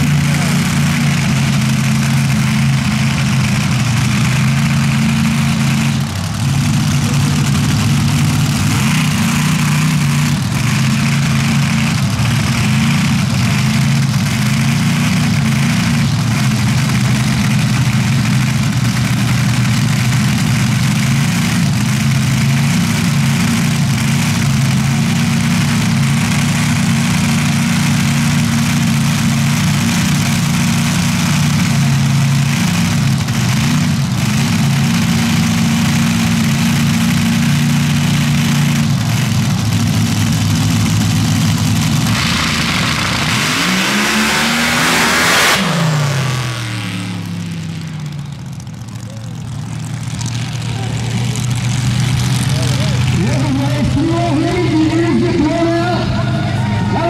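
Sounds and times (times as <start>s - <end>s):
engines idling: 0.0s - 57.0s.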